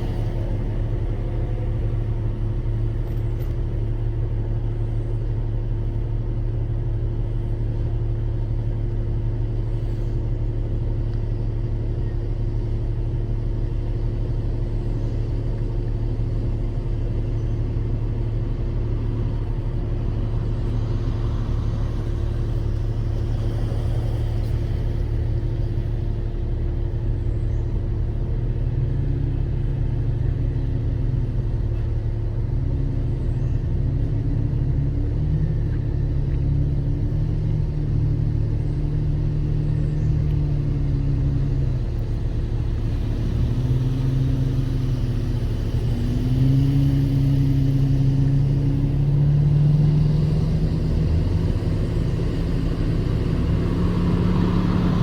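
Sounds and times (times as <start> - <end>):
vehicle engine droning steadily: 0.0 - 55.0.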